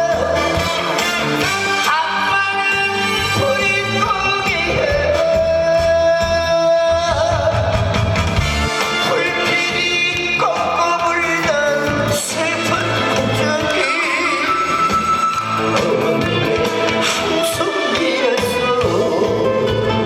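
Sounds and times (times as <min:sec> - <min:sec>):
person singing with vibrato: 0:00.0 - 0:08.0, 0:08.9 - 0:20.0
band playing: 0:00.0 - 0:20.0.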